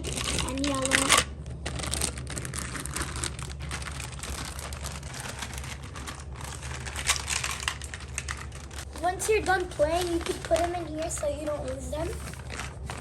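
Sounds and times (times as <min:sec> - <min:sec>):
plastic pieces clattering: 0:00.0 - 0:13.0.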